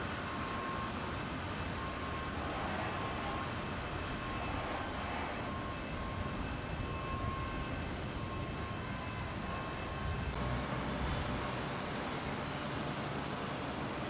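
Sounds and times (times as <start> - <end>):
faint whining tones: 0.0 - 14.0
rumbling outdoor background noise: 0.0 - 14.0.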